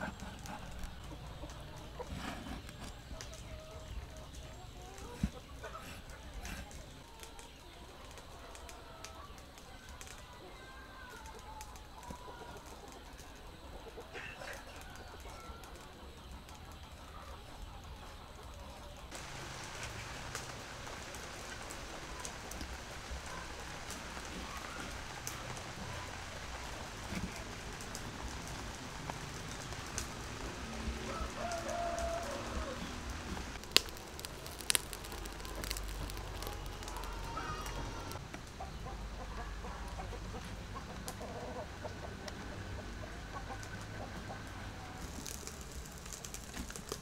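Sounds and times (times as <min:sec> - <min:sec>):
chickens clucking: 0:00.0 - 0:47.0
steady background hiss: 0:00.0 - 0:47.0.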